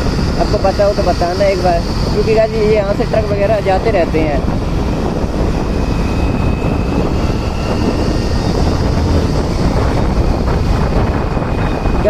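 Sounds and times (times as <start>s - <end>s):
motorcycle running and road noise: 0.0s - 12.0s
thin steady whine: 0.0s - 12.0s
wind blasting over microphone: 0.0s - 12.0s.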